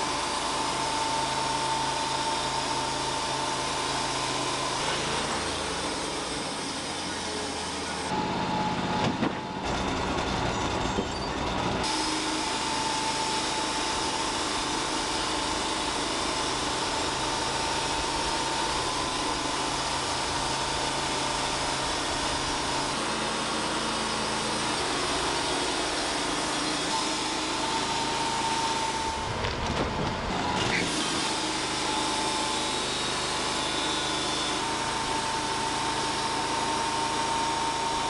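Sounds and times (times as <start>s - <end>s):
bandsaw mill cutting log: 0.0s - 38.0s.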